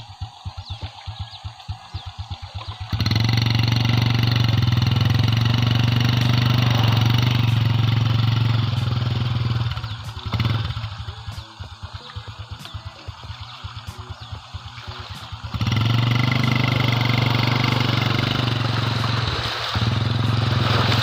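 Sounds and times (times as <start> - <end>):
motorcycle engine: 0.0 - 21.0
water rushing under motorcycle: 0.0 - 21.0.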